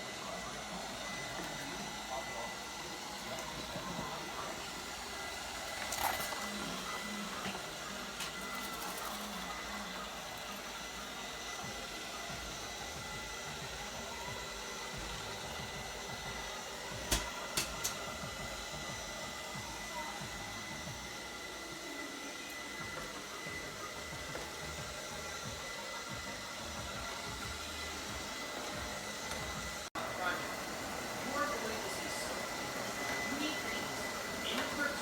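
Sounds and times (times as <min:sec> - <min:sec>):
robot vacuum whirring: 0:00.0 - 0:35.0.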